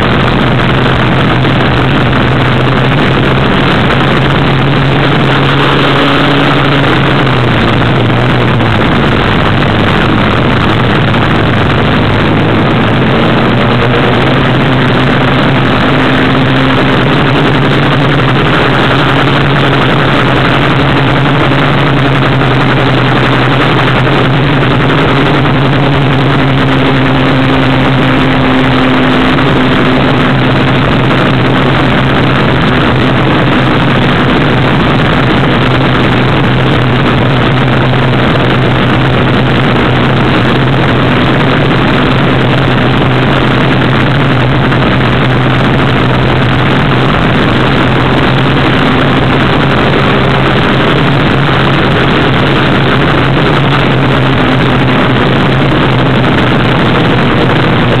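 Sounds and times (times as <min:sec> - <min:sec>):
buggy engine running loud: 0:00.0 - 0:58.0
road and wind noise: 0:00.0 - 0:58.0.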